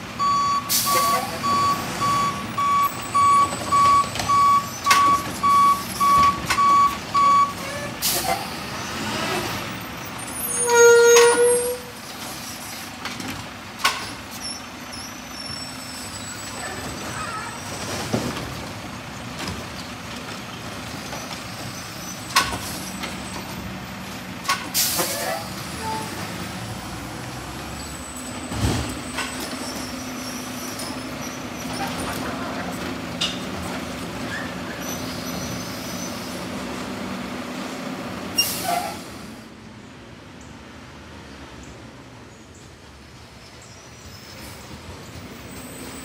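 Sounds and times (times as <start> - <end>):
garbage truck engine running: 0.0 - 10.5, 11.8 - 39.5.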